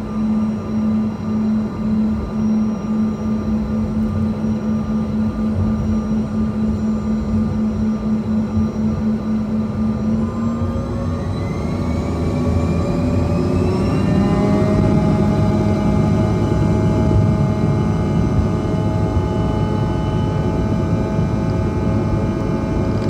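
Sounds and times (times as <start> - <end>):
jet engines humming and whining: 0.0 - 23.0.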